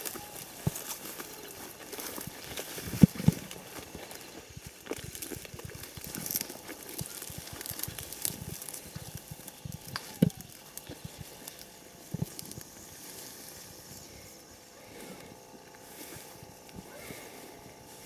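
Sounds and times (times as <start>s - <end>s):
footsteps through dry grass: 0.0s - 18.0s.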